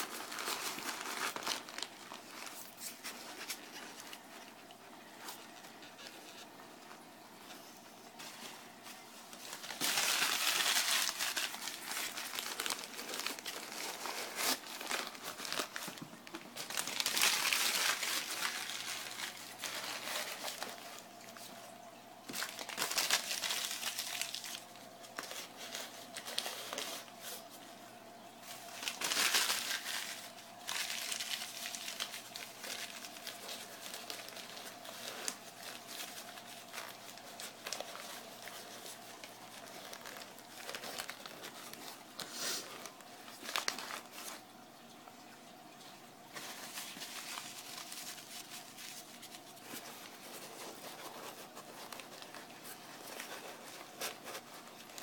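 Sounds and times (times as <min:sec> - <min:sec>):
newspaper rustling: 0:00.0 - 0:44.9, 0:45.8 - 0:55.0.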